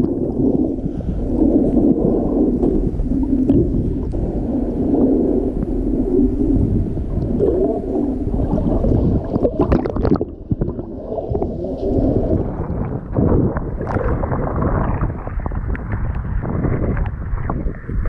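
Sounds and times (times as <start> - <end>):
underwater churning and gurgling: 0.0 - 18.0
water splashing: 0.0 - 18.0.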